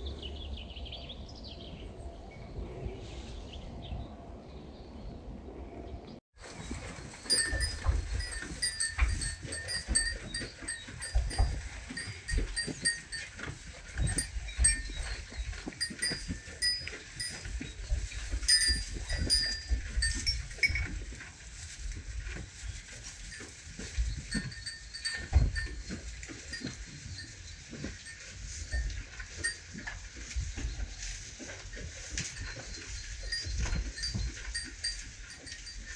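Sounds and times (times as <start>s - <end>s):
livestock bells clinking: 6.4s - 35.9s
rustling: 6.4s - 35.9s.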